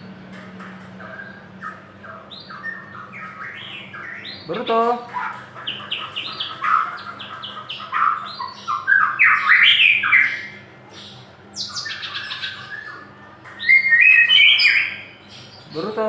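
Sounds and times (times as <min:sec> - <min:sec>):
songbird singing varied song: 0:01.1 - 0:13.0, 0:13.6 - 0:16.0.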